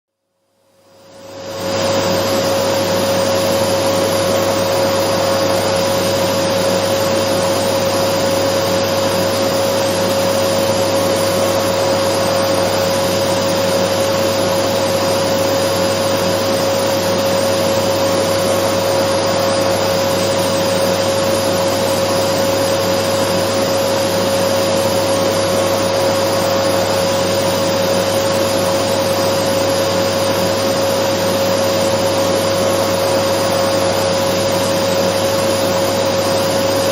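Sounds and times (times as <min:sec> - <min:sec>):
vacuum cleaner running: 0:00.7 - 0:36.9.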